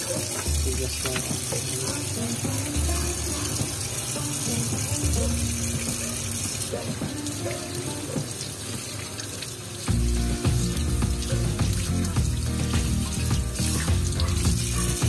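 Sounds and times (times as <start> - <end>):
background music: 0.0 - 15.0
tap water running into metal sink: 0.0 - 15.0.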